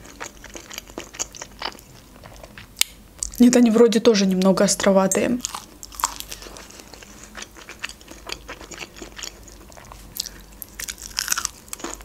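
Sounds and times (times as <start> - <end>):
chewing crunchy chicken: 0.0 - 3.4, 5.4 - 12.0.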